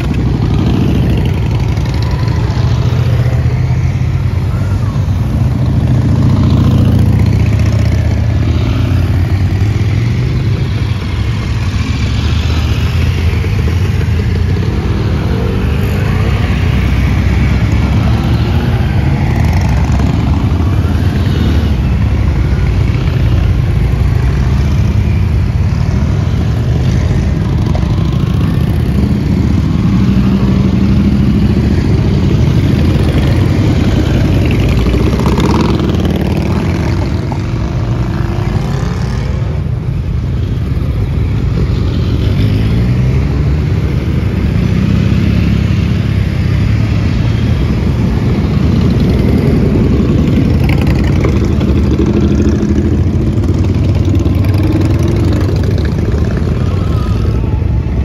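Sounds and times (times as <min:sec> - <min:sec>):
motorcycles riding slowly past: 0:00.0 - 0:58.0.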